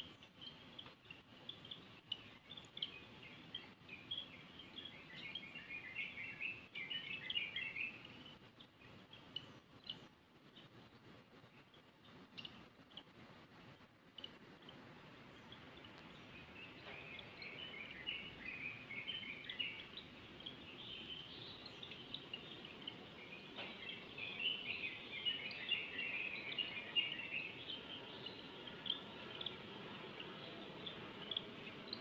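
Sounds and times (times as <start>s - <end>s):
faint steady hiss: 0.0s - 32.0s
small birds chirping: 0.0s - 32.0s.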